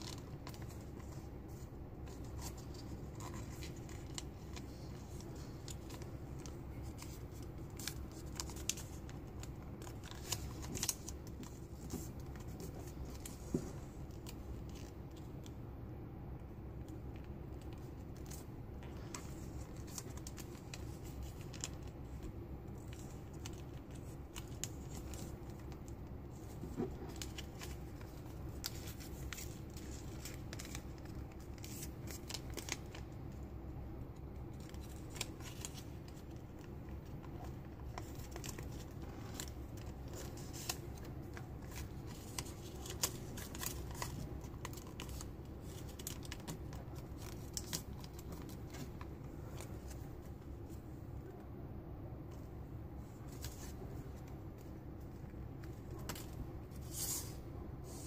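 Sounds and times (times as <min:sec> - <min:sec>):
paper rustling and crinkling: 0:00.0 - 0:15.6, 0:17.1 - 0:33.4, 0:34.3 - 0:50.9, 0:52.3 - 0:58.0
low background noise: 0:00.0 - 0:58.0.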